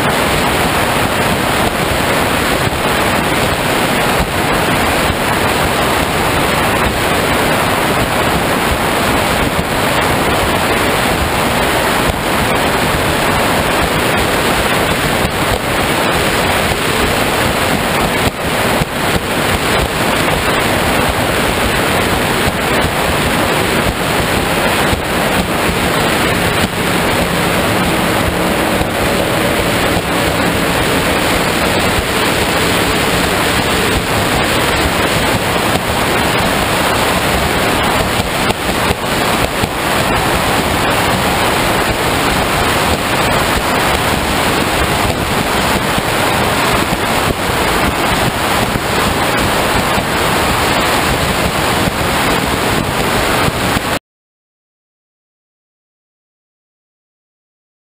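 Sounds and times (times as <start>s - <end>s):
faint engine drone: 0.0s - 53.0s
water rushing past hull: 0.0s - 54.0s
wind buffeting microphone: 0.0s - 54.0s.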